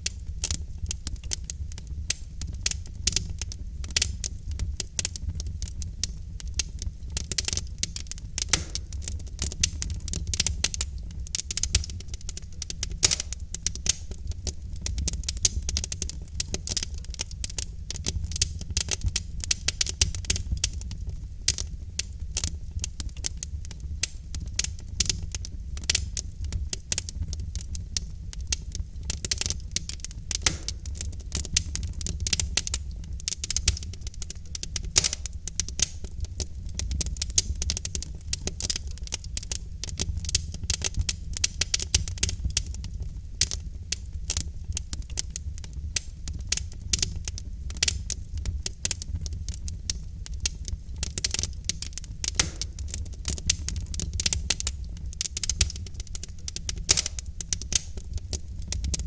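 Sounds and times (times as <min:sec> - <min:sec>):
logs crackling in a fireplace: 0:00.0 - 0:59.0.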